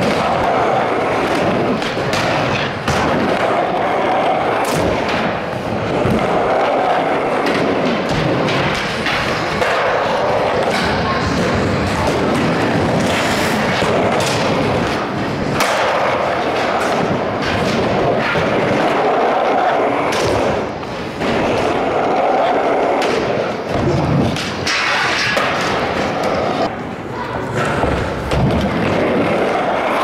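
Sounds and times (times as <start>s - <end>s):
skateboard clacking and landing: 0.0s - 26.7s
skateboard wheels rolling on wood: 0.0s - 30.0s.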